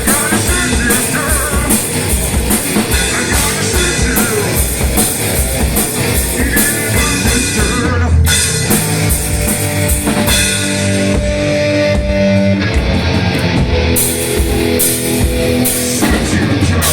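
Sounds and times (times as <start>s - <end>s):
drum kit: 0.0s - 16.9s
electric guitar: 0.0s - 16.9s.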